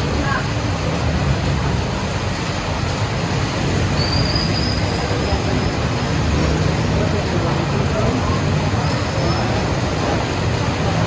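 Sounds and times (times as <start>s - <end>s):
rain hiss: 0.0s - 11.0s
road traffic rumble: 0.0s - 11.0s.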